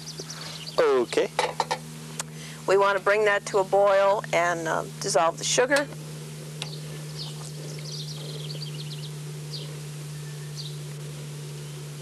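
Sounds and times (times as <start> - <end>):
birds chirping: 0.0 - 1.7, 2.3 - 12.0
steady low hum: 0.0 - 12.0.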